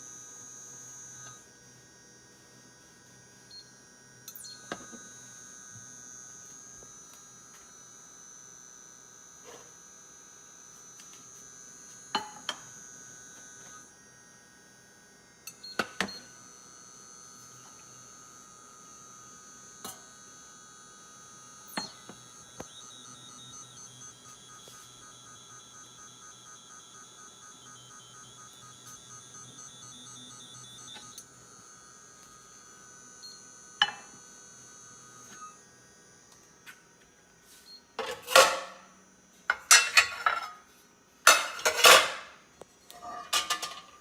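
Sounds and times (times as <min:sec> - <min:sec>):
cooktop high-pitched whine: 0:00.0 - 0:44.0.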